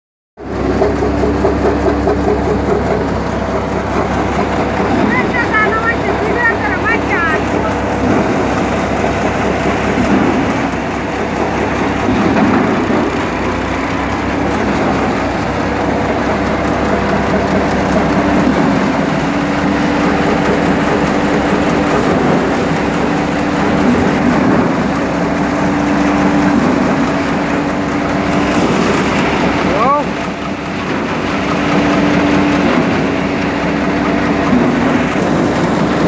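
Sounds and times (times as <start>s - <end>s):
thresher and tractor din: 0.4s - 36.0s.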